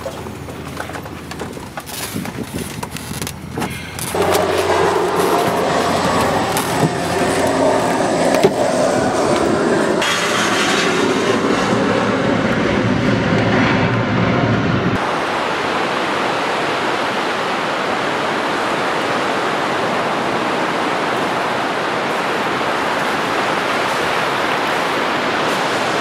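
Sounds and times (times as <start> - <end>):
steady rushing noise: 0.2 - 26.0
machine-like hum: 3.6 - 26.0.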